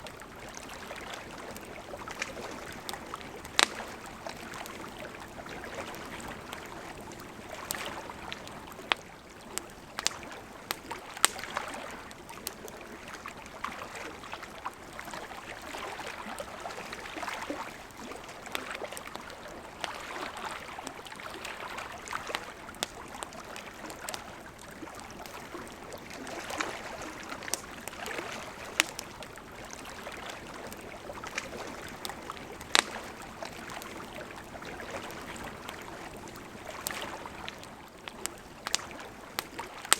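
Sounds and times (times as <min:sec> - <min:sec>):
small waves lapping at shore: 0:00.0 - 0:39.9
wood campfire crackling: 0:00.0 - 0:39.9.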